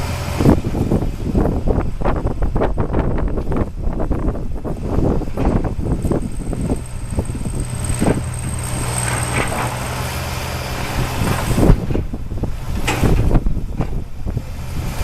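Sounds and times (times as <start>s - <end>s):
diesel locomotive engine hum: 0.0s - 15.0s.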